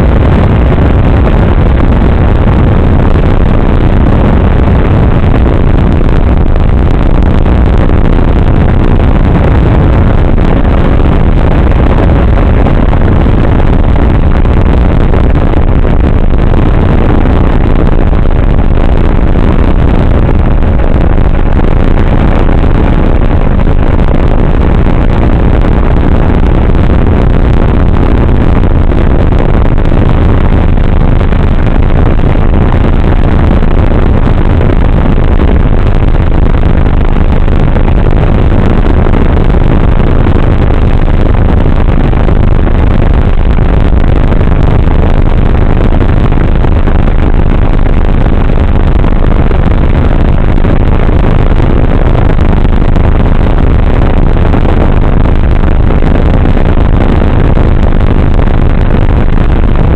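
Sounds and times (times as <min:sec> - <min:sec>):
wind rush: 0:00.0 - 0:59.9.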